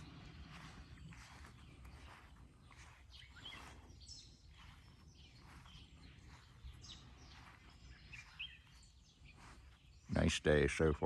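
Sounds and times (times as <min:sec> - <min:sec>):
high bird chirps: 0:00.0 - 0:10.2.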